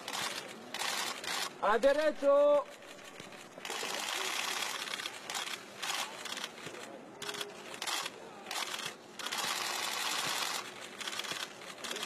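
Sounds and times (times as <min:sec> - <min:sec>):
camera shutter bursts: 0:00.0 - 0:01.6, 0:02.7 - 0:12.0.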